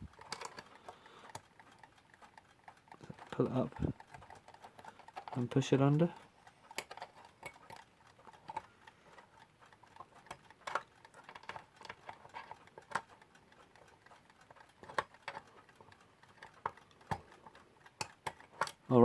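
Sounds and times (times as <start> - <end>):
metal parts clicking: 0.0 - 8.7, 9.6 - 13.2, 13.8 - 18.9
alarm clock ticking: 0.0 - 19.0.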